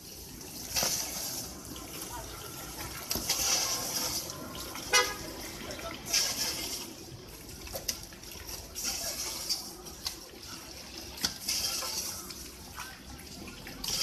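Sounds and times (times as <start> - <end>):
machine spraying water: 0.0 - 14.0.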